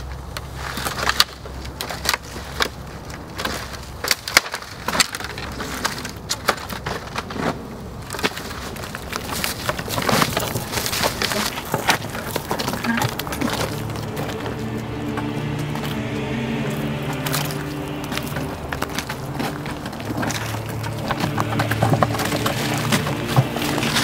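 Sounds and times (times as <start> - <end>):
snow and brush crunching: 0.1 - 24.0
sticks cracking and snapping: 0.7 - 24.0.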